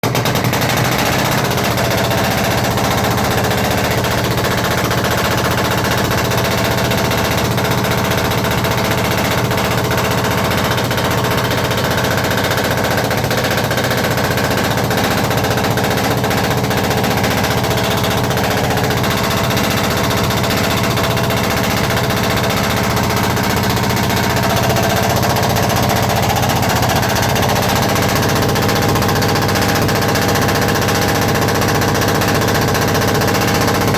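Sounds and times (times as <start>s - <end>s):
diesel engine clattering: 0.0s - 33.9s.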